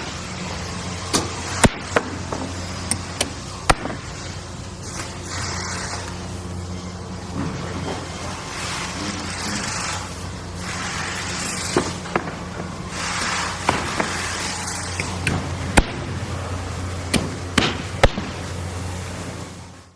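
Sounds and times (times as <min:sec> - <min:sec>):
rushing drilling noise: 0:00.0 - 0:18.0
low engine hum: 0:00.0 - 0:19.9.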